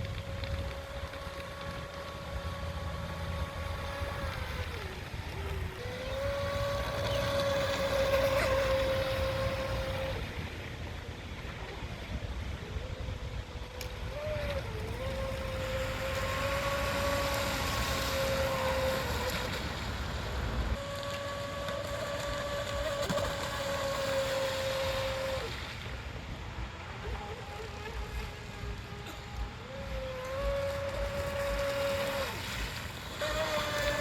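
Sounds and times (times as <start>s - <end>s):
electric motor whining: 0.0s - 25.7s, 26.9s - 34.0s.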